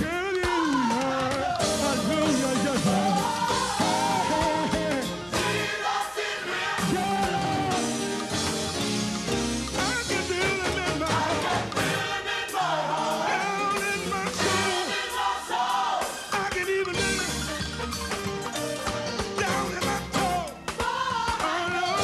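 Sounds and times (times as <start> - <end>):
band accompaniment: 0.0 - 22.0.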